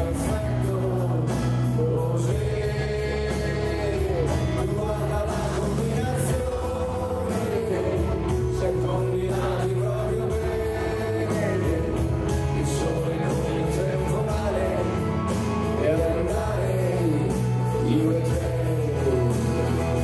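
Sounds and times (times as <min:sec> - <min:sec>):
acoustic guitar: 0:00.0 - 0:20.0
bass line: 0:00.0 - 0:20.0
drums: 0:00.0 - 0:20.0
electric guitar: 0:00.0 - 0:20.0
keyboards: 0:00.0 - 0:20.0.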